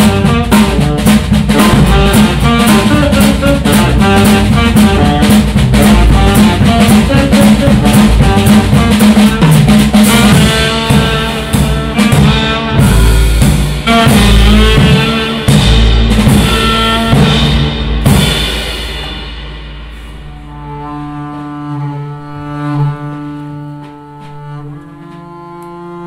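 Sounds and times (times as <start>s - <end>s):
saxophone playing: 0.0s - 17.7s, 20.2s - 26.0s
double bass playing: 0.0s - 18.4s, 19.8s - 26.0s
busy drum kit playing: 0.0s - 26.0s.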